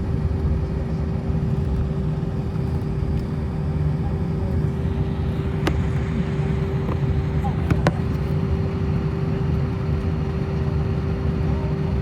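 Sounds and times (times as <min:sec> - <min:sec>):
airliner rumbling on ground: 0:00.0 - 0:11.4.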